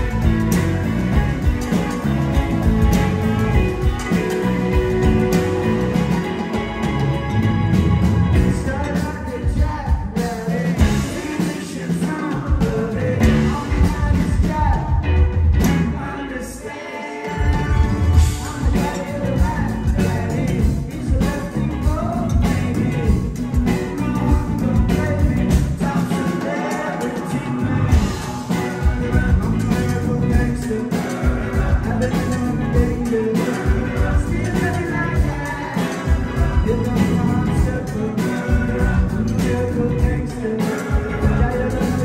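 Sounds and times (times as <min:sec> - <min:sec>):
live rock band playing: 0:00.0 - 0:42.0
person singing: 0:00.0 - 0:42.0.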